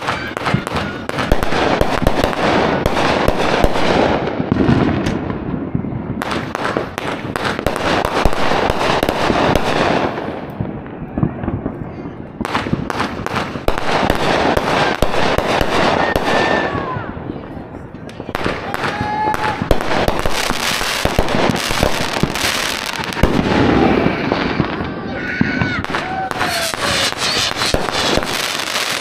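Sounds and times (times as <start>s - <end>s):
fireworks crackling and bursting: 0.0s - 29.0s.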